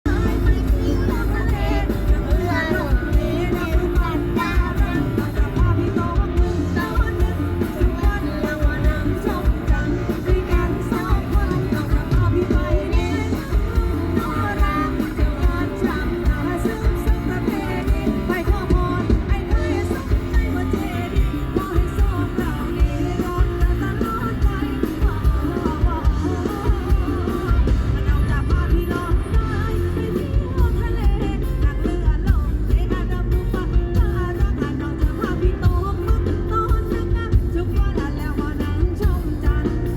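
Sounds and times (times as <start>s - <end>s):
upbeat song singing with band: 0.0s - 39.9s.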